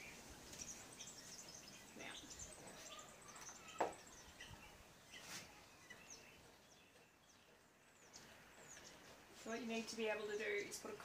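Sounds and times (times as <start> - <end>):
faint bird chirps: 0.0 - 9.1.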